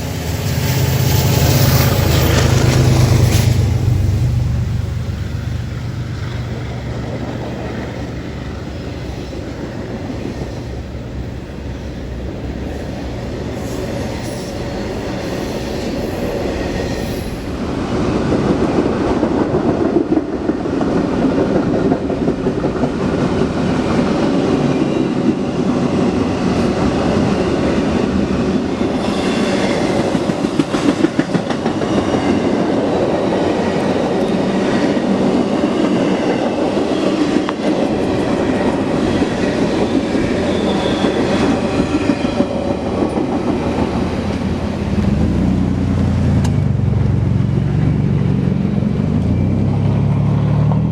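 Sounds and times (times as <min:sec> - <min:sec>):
railcar wheels clattering: 0:00.0 - 0:50.2
train low rumble: 0:00.0 - 0:50.9.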